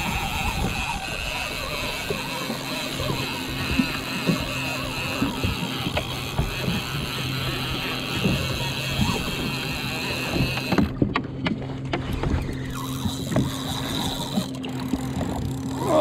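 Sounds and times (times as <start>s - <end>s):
fishing reel clicks: 0.0s - 10.9s, 12.4s - 16.0s
jet ski engine idling: 0.0s - 11.8s, 12.5s - 16.0s
water noise: 0.0s - 16.0s
wind: 0.0s - 16.0s.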